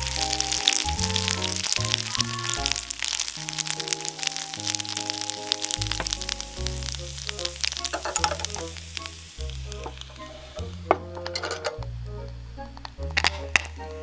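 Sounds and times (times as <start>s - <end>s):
popcorn sizzling and crackling: 0.0s - 14.0s.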